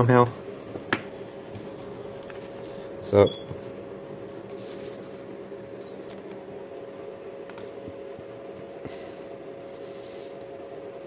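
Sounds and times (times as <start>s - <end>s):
steady hum with held tone: 0.0s - 11.0s.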